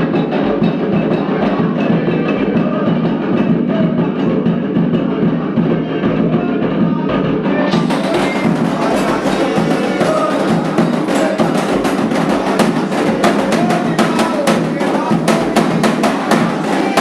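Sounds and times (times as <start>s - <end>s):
hand drums: 0.0s - 17.0s
voices singing: 0.0s - 17.0s.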